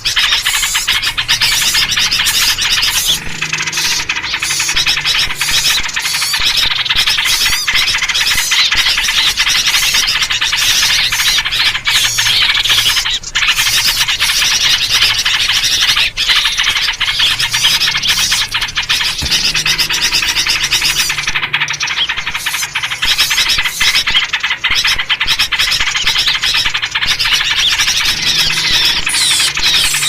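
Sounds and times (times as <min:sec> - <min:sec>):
many small birds chattering: 0:00.0 - 0:30.0.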